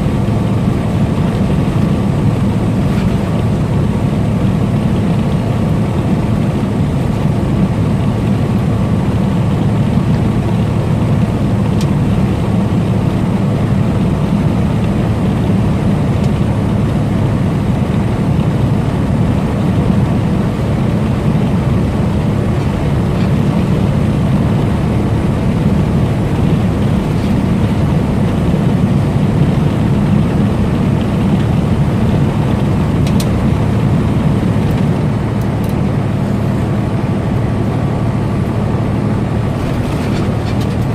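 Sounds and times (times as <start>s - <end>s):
road noise: 0.0s - 40.9s
truck engine droning: 0.0s - 40.9s.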